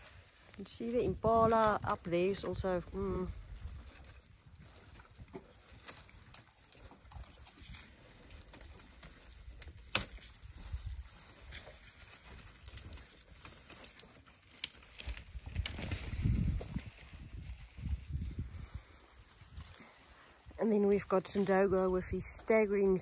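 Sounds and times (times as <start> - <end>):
twigs snapping: 0.0 - 21.6
branch cracking: 0.0 - 21.7
bushes rustling: 0.0 - 23.0.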